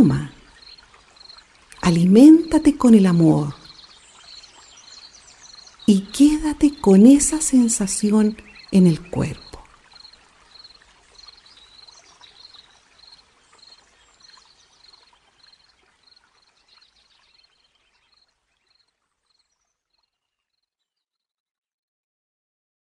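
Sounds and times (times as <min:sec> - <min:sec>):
soft hiss of running water: 0:00.0 - 0:20.1.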